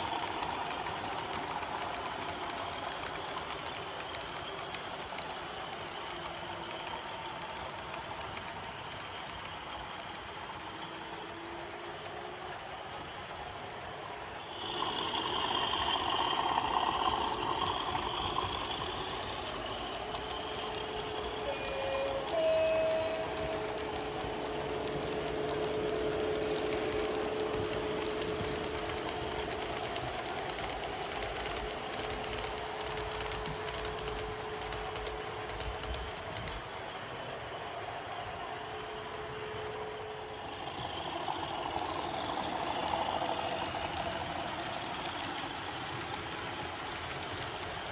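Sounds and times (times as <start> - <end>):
model train running on track: 0.0 - 47.9.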